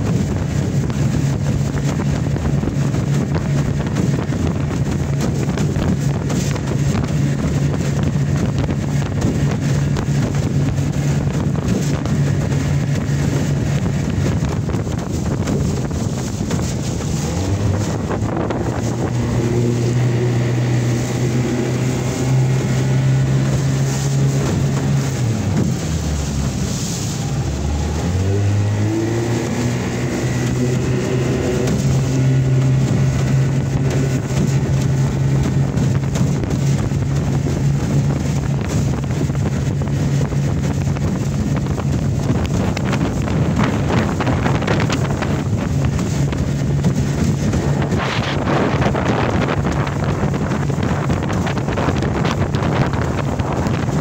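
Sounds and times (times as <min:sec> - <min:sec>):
outboard engine at full throttle: 0:00.0 - 0:54.0
wind buffeting microphone: 0:00.0 - 0:54.0.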